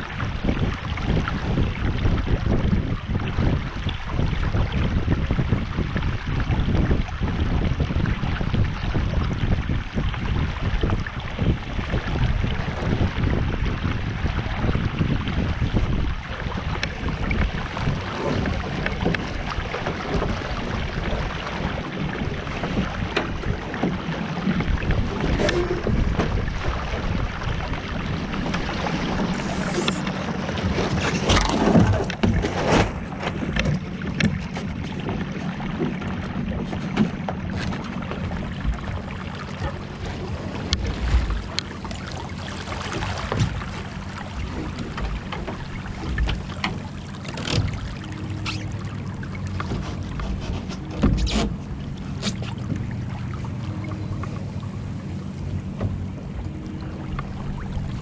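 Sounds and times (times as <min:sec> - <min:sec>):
water washing along hull: 0:00.0 - 0:58.0
wind on microphone: 0:00.0 - 0:58.0
knocks and clicks from boat gear: 0:00.4 - 0:13.6, 0:16.6 - 0:58.0.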